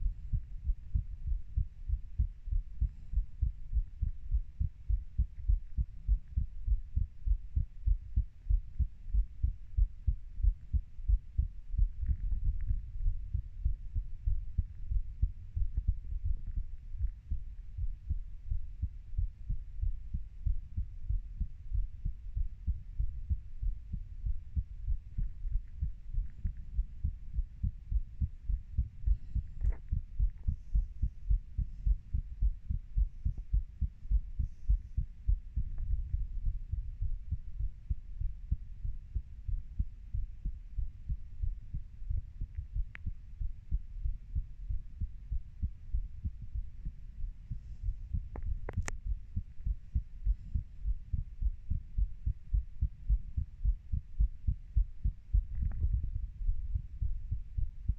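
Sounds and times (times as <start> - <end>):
heartbeat thuds: 0.0 - 57.9.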